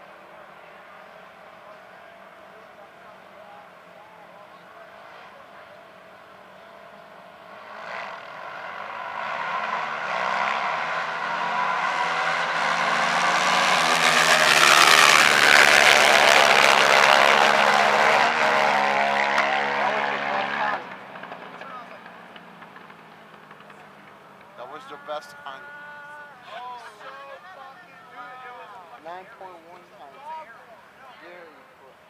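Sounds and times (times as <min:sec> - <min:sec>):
atv engines accelerating: 0:00.0 - 0:31.5.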